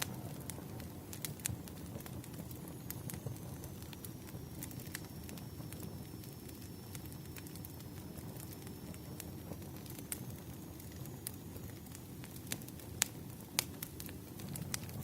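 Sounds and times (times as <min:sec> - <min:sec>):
low fire rumble: 0:00.0 - 0:15.0
wood crackling in fire: 0:00.0 - 0:15.0.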